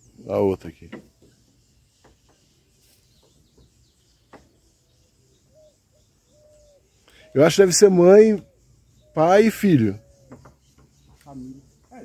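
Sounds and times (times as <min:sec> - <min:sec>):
distant bird calls: 0:00.0 - 0:12.0.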